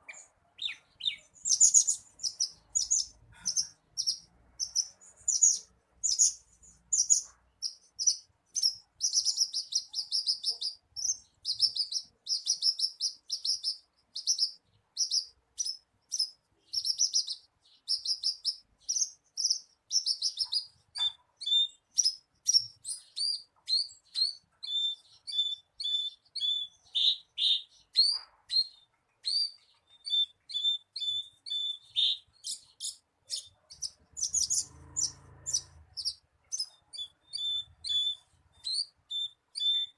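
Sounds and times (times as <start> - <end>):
lark singing chirps and trills: 0.0 - 39.9.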